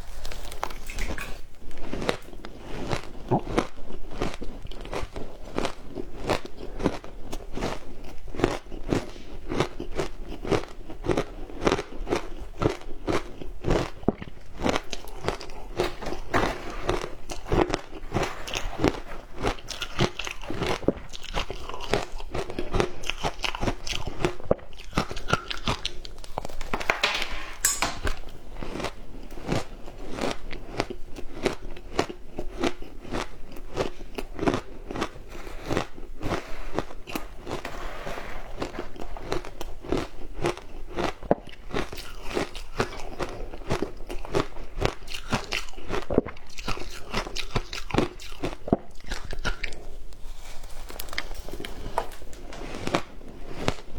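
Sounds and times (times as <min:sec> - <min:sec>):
ice being chewed: 0:00.0 - 0:26.9, 0:27.6 - 0:53.9.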